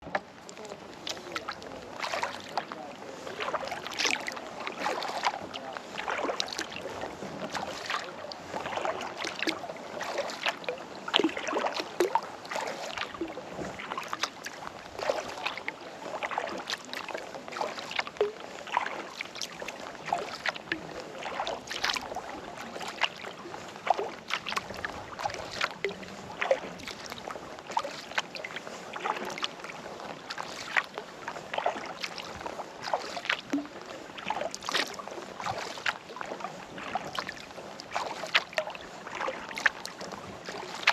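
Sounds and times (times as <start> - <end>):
kayak paddle splashing: 0.0 - 40.9.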